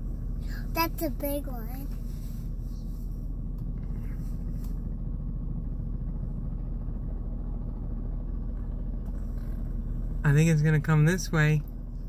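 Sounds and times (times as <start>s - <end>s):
helicopter low drone: 0.0s - 12.0s.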